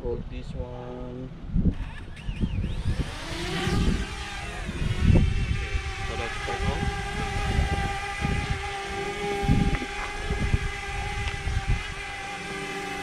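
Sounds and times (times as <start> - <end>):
wind rumbling on microphone: 0.0 - 13.0
drone propellers whining: 1.6 - 13.0.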